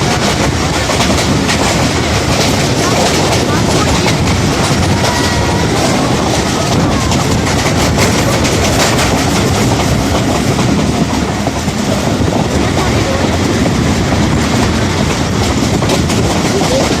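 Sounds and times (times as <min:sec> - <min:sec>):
clicks and clatters of rails: 0:00.0 - 0:17.0
train wheels rumbling: 0:00.0 - 0:17.0.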